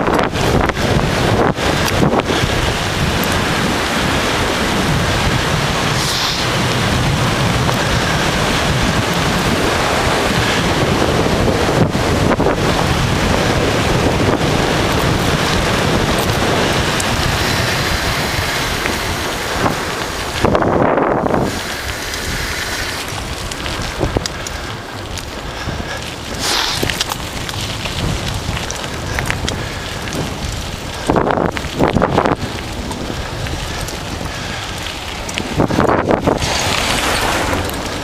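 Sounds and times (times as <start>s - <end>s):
bicycle tyres on asphalt: 0.0s - 38.0s
wind buffeting microphone: 0.0s - 38.0s.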